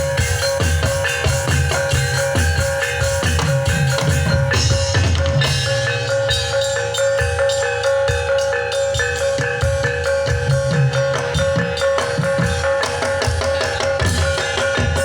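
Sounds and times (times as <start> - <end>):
drums beating a fast rhythm: 0.0 - 15.0
ringing metallophone notes: 0.0 - 15.0.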